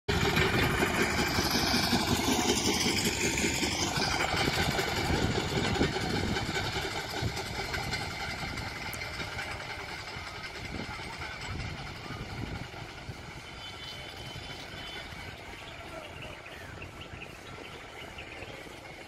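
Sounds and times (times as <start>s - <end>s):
small rail trolley engine running: 0.1s - 19.0s.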